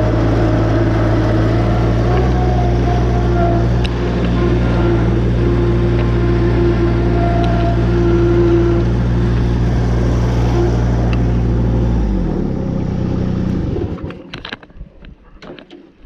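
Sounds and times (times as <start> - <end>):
diesel mower engine running: 0.0 - 14.6.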